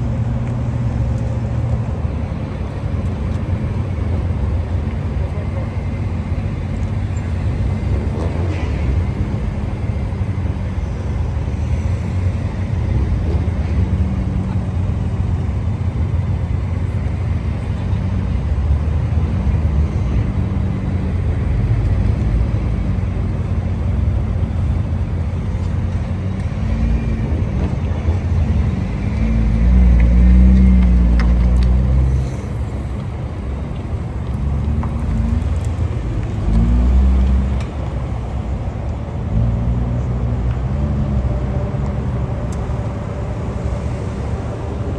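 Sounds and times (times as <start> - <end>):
car engines rumbling: 0.0 - 44.9
engine revving: 0.0 - 44.9.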